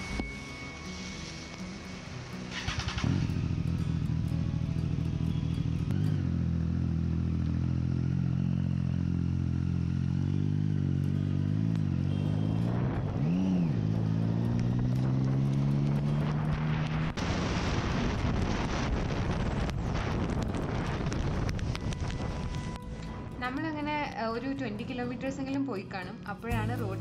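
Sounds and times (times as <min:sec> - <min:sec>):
motorcycle engine running: 0:02.5 - 0:25.0.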